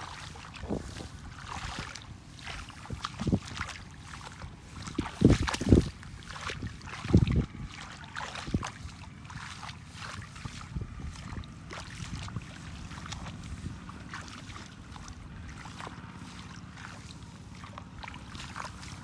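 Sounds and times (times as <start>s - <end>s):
hands squelching through wet mud: 0.0s - 19.0s.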